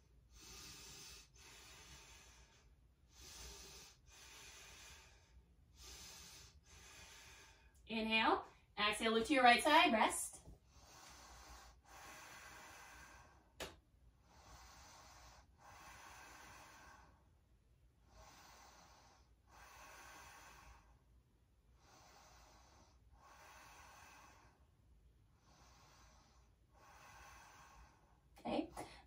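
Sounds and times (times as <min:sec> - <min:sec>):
woman breathing faintly: 0:00.0 - 0:07.8, 0:10.4 - 0:17.4, 0:18.0 - 0:29.0.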